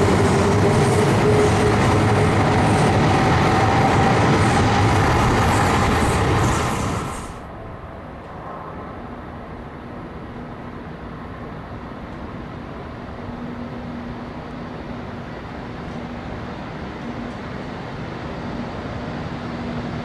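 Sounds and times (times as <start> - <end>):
train rumbling into station: 0.0 - 20.0.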